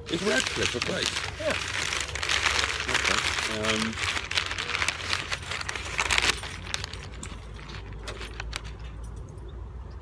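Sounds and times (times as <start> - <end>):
paper wrapper crinkling: 0.0 - 8.8.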